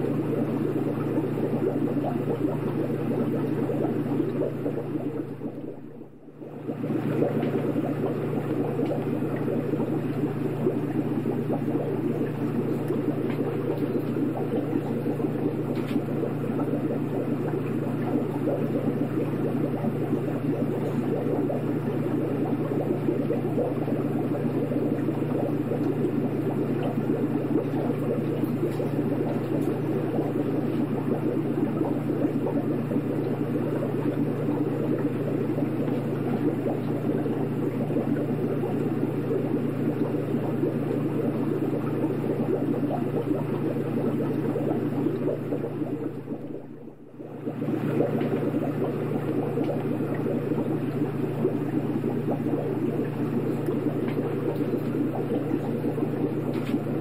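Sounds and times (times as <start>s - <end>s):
aquarium pump hum: 0.0s - 57.0s
water bubbling: 0.0s - 57.0s.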